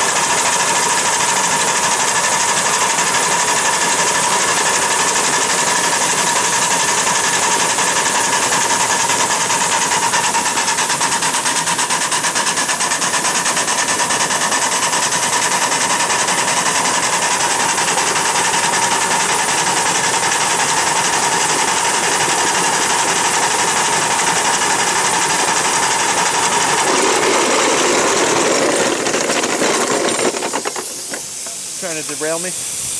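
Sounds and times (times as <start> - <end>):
constant high whine: 0.0 - 32.9
train mechanical clatter: 0.0 - 32.9.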